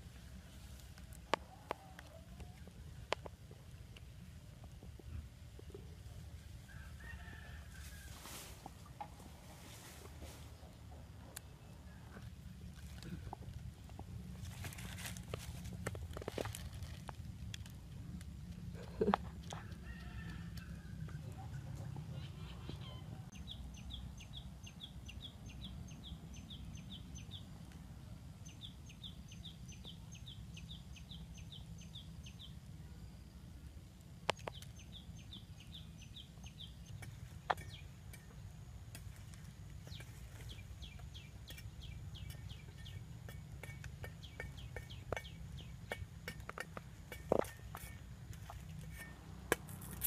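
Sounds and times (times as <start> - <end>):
low background rumble: 0.0 - 50.0.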